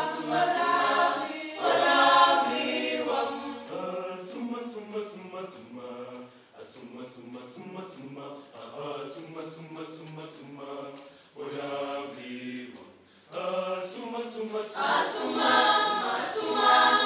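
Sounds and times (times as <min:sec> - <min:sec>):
mixed choir singing: 0:00.0 - 0:17.0.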